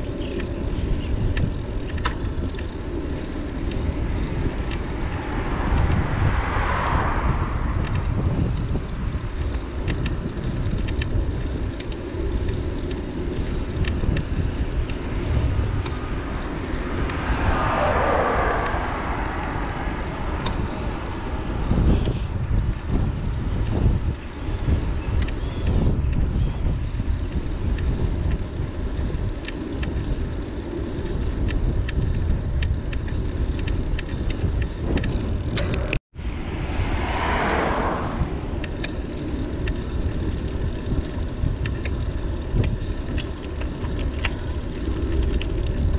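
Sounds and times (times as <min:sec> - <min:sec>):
vehicles passing: 0:00.0 - 0:45.9
wind rumbling on microphone: 0:00.0 - 0:45.9.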